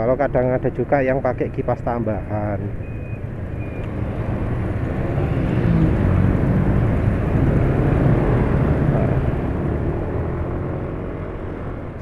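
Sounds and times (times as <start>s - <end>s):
motorcycle engines: 0.0s - 12.0s
road noise: 0.0s - 12.0s.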